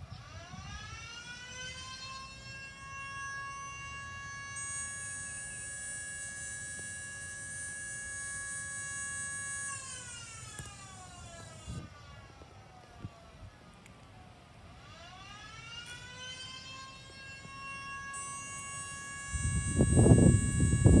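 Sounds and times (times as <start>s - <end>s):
siren wailing and winding down: 0.0s - 13.6s, 14.7s - 21.0s.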